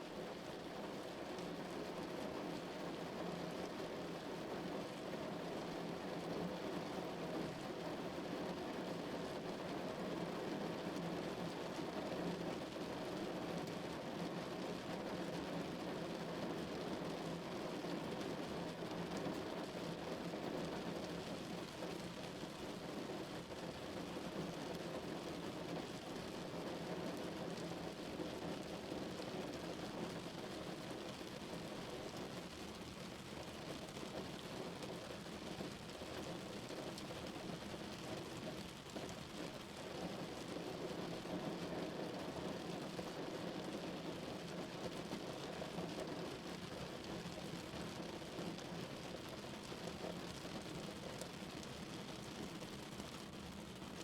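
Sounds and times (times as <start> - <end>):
rain on car roof: 0.2 - 54.0.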